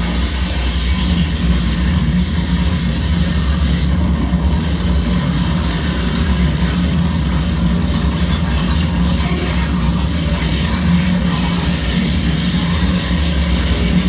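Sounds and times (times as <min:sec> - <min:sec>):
low electronic drone: 0:00.0 - 0:14.0.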